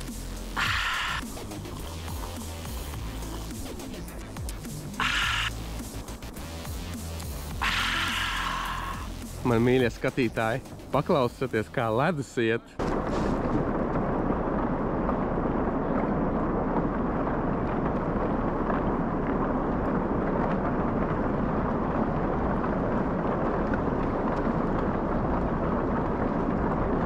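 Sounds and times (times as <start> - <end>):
river ice grinding and crackling: 0.0 - 27.0.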